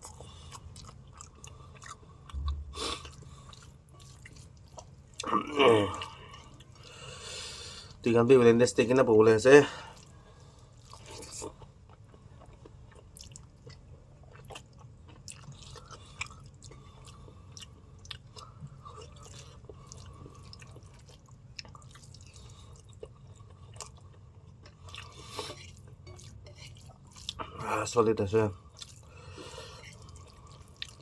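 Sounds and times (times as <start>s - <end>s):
person chewing food: 0.0s - 8.0s, 9.8s - 27.7s, 28.6s - 31.0s
faint low hum: 0.0s - 31.0s.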